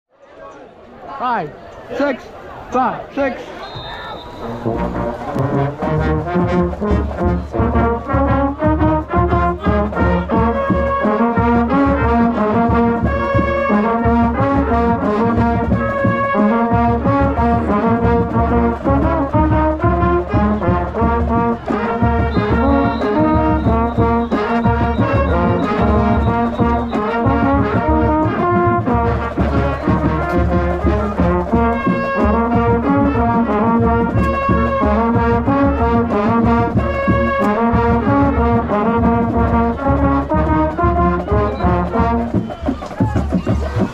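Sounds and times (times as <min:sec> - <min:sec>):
marching band brass playing: 0:02.1 - 0:43.9
steady drum beat: 0:04.4 - 0:43.9.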